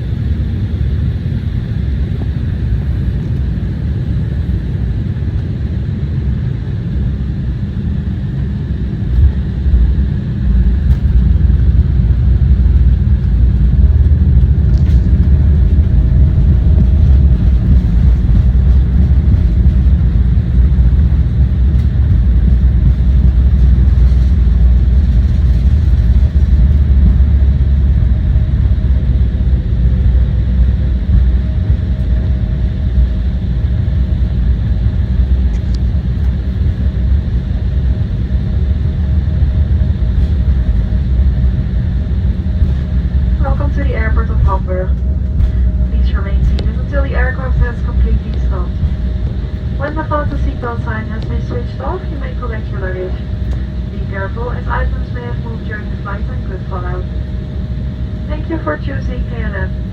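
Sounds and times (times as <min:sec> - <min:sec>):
faint steady whine: 0:00.0 - 0:59.9
jet cabin rumble: 0:00.0 - 0:59.9.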